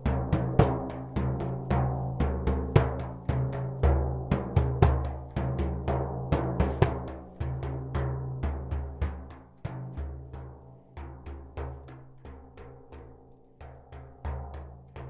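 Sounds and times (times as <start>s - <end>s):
deep booming drum beats: 0.0s - 12.7s.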